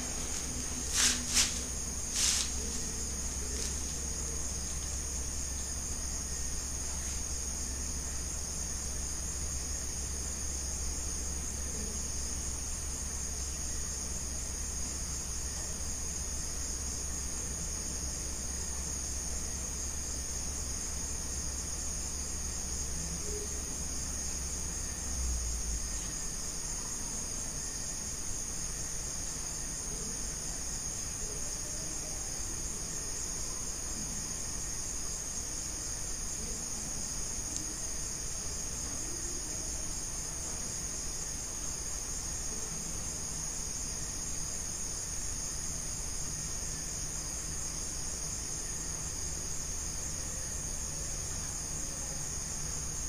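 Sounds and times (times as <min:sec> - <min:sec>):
night insects trilling: 0:00.0 - 0:53.0.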